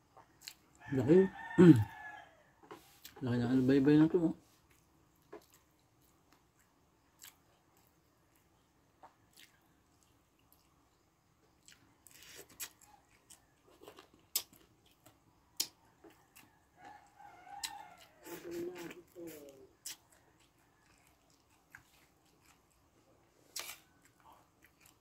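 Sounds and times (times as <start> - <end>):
man chewing food: 0.1 - 3.2, 4.5 - 25.0.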